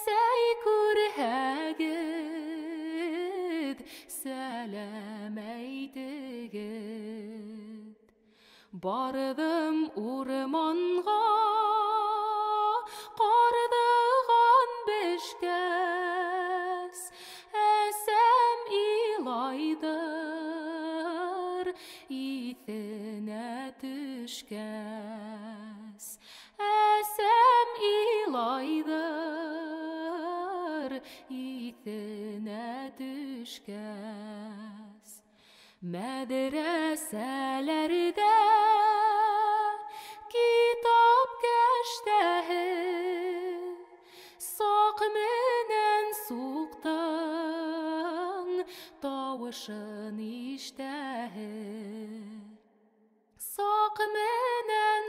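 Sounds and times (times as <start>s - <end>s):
woman singing unaccompanied: 0.0s - 7.9s, 8.8s - 35.2s, 35.9s - 52.6s.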